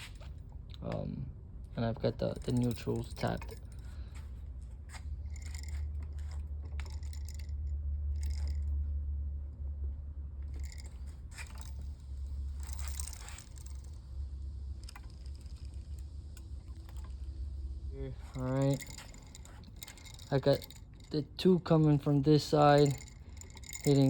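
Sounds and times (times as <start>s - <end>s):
steady low hum: 0.0s - 24.0s
wires clicking and scraping: 2.0s - 8.8s, 10.5s - 24.0s.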